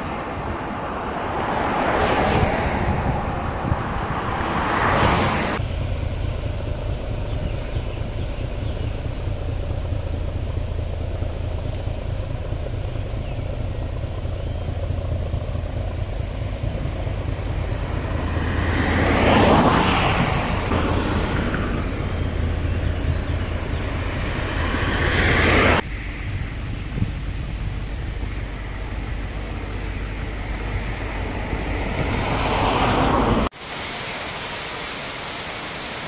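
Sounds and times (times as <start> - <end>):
vehicle passing close: 0.0 - 33.5
wind rumble on microphone: 0.0 - 33.5
vehicle sound: 0.0 - 36.0.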